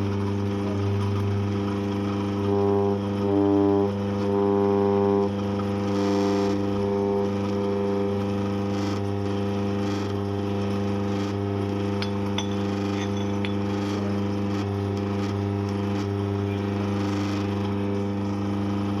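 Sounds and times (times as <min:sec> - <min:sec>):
coffee grinder motor droning: 0:00.0 - 0:19.0.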